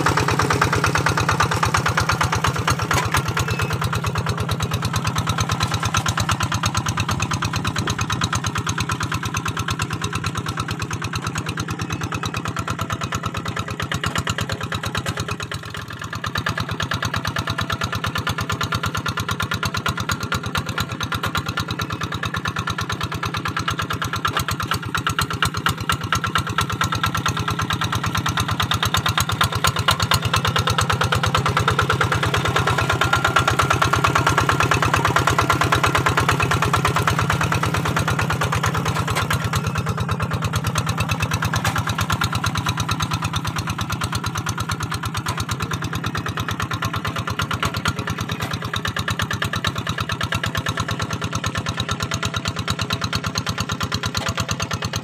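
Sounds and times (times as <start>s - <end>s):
diesel tractor engine under load: 0.0s - 55.0s.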